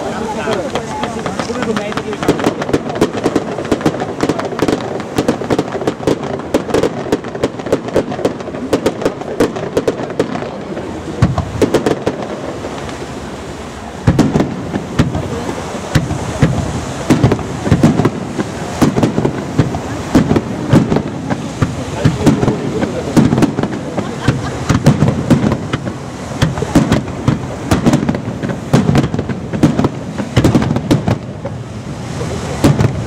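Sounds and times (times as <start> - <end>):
fireworks bangs and crackles: 0.0 - 33.0
heavy firework booms: 0.0 - 33.0.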